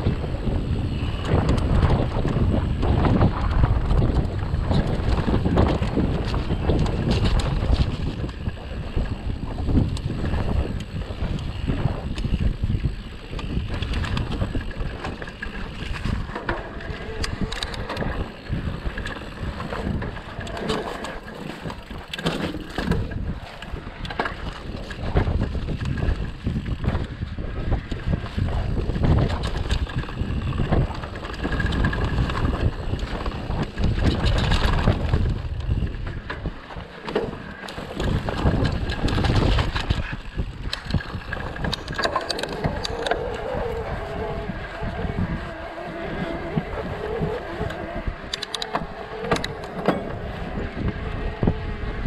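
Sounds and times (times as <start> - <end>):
bike rattling: 0.0 - 52.0
tyres crunching on rough track: 0.0 - 52.0
wind buffeting microphone: 0.0 - 52.0.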